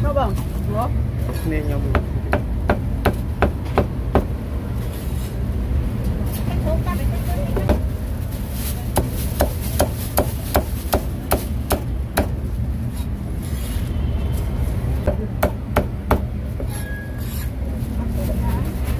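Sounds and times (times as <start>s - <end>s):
low rumble of street traffic: 0.0s - 18.9s.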